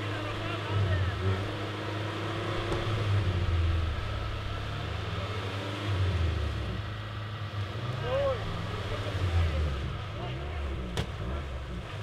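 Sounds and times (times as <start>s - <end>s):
off-road engines idling: 0.0s - 12.0s.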